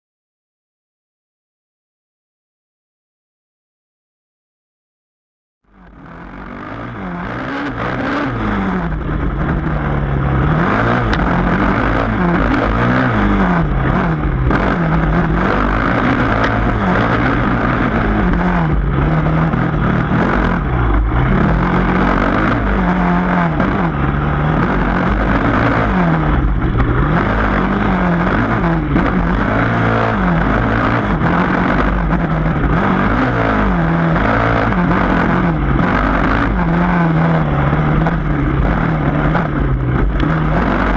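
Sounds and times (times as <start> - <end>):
dirt bike engine revving: 5.8 - 40.9.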